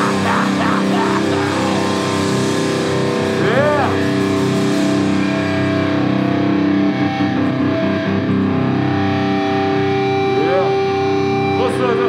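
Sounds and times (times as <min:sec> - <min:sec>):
guitar amplifier feedback tones: 0:00.0 - 0:12.0.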